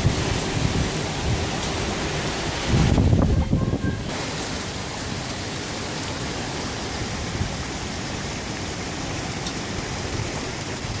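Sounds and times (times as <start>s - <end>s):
heavy rain on lawn and paving: 0.0s - 11.0s.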